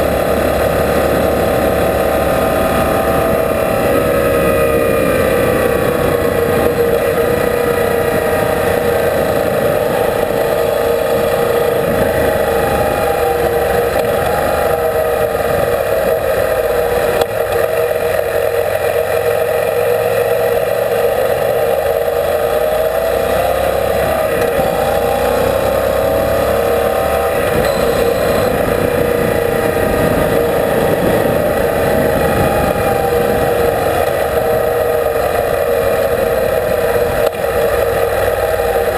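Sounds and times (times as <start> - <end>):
motorcycle engine cruising: 0.0 - 38.9
wind noise: 0.0 - 38.9.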